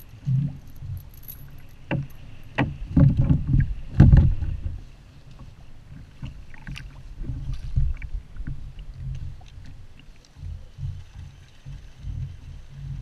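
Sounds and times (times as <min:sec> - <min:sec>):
wind buffeting microphone: 0:00.0 - 0:05.0, 0:07.0 - 0:13.0
water slapping against a kayak: 0:01.8 - 0:13.0.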